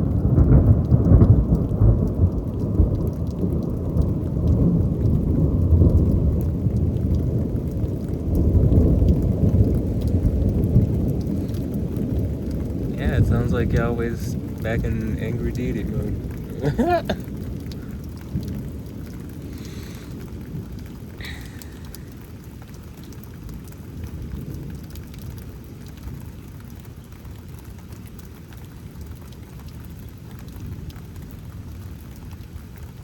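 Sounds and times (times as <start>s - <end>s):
low rumble of thunder: 0.0s - 27.3s
steady rain falling: 0.0s - 33.0s.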